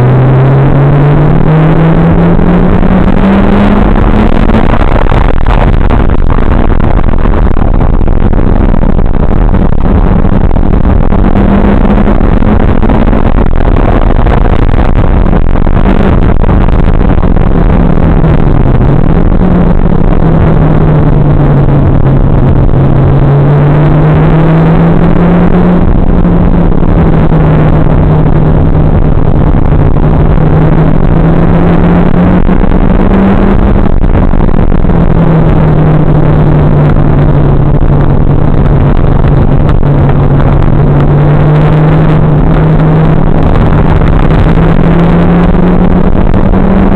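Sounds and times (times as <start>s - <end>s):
car engine under load: 0.0s - 46.9s
distorted wind and road noise: 0.0s - 46.9s.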